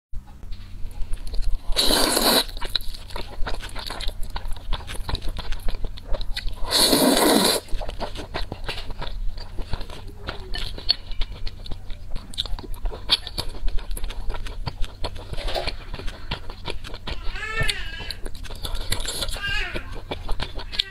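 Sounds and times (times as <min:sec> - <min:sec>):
wet chewing and mouth clicks: 0:00.8 - 0:20.9
noodles slurped loudly: 0:01.6 - 0:05.6, 0:06.4 - 0:20.9.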